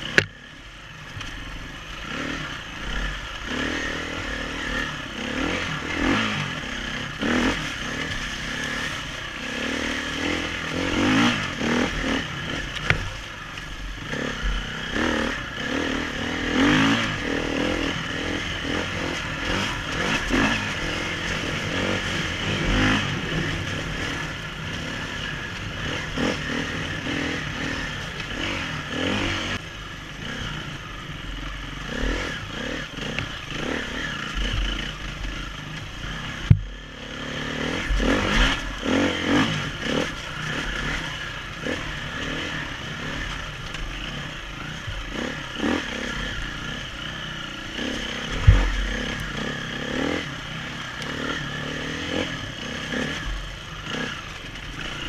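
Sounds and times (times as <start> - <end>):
motorcycle engine revving: 0.0 - 55.0
motorcycle rattling: 0.0 - 55.0.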